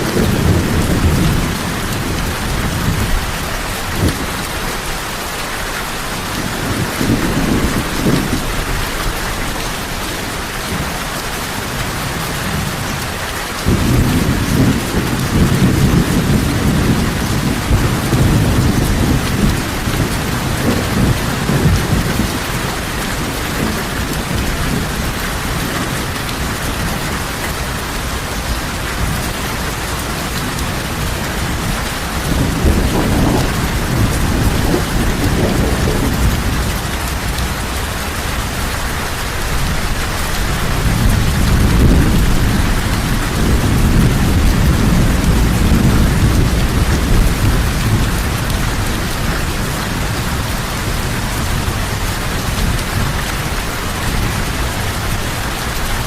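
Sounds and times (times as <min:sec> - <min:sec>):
low rolling thunder: 0:00.0 - 0:04.9, 0:06.2 - 0:09.6, 0:11.6 - 0:56.0
heavy rain: 0:00.0 - 0:56.0.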